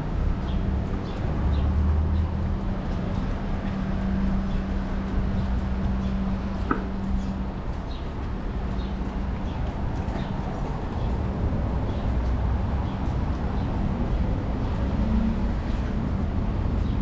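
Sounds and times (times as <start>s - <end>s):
engine and traffic hum: 0.0s - 17.0s.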